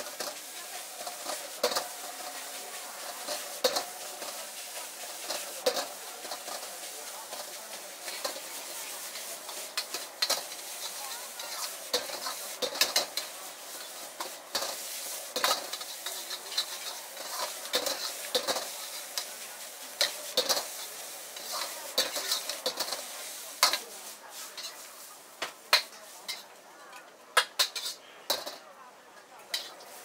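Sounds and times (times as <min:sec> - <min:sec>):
metal ladle scraping wok: 0:00.0 - 0:25.1, 0:26.2 - 0:26.5, 0:27.6 - 0:28.6, 0:29.5 - 0:30.0
wok sizzling: 0:00.0 - 0:30.0.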